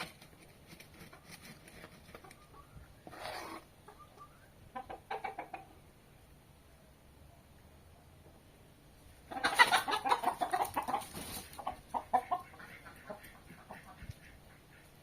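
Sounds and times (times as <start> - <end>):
chickens clucking: 0.0 - 6.8, 8.2 - 15.0.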